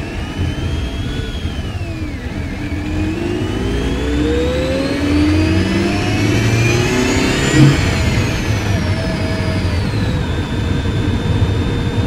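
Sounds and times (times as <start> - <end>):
car engine accelerating with whine: 0.0 - 12.0.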